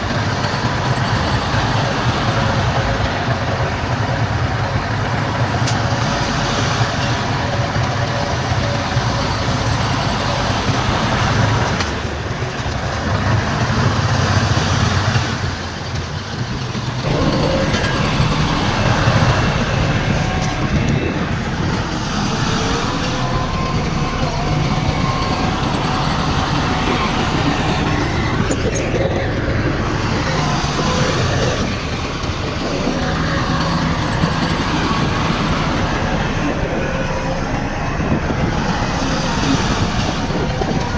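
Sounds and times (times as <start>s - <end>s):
heavy diesel engine rumbling: 0.0s - 40.9s
steel tracks clattering and squealing: 0.0s - 40.9s.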